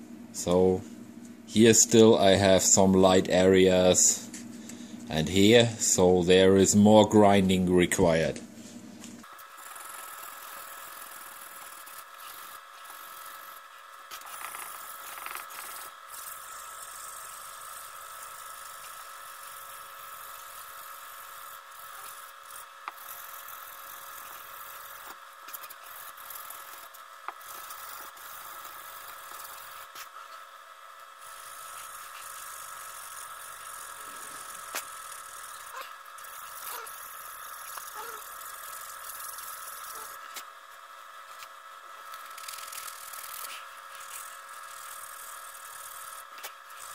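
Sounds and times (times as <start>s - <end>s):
electric whir with tones: 0.0s - 46.9s.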